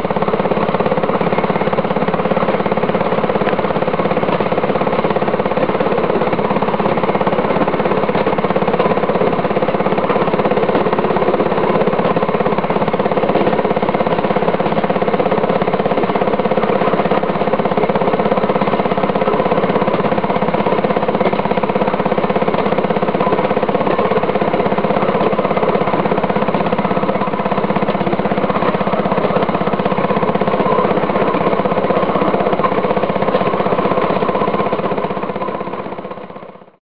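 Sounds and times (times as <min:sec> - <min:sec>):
rail car engine running: 0:00.0 - 0:36.8.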